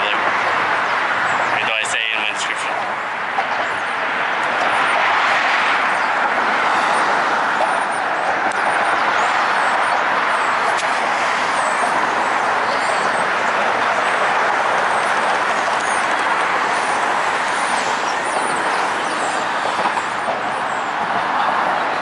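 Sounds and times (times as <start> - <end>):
road traffic hiss: 0.0 - 22.0.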